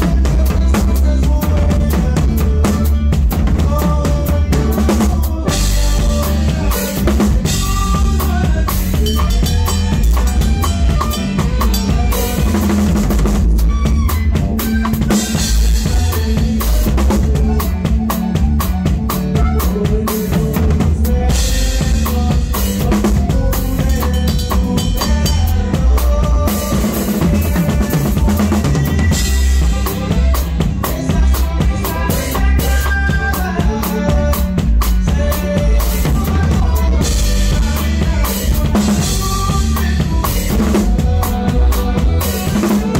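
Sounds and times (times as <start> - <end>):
bass drum and snare beat: 0.0 - 42.9
live band playing: 0.0 - 42.9.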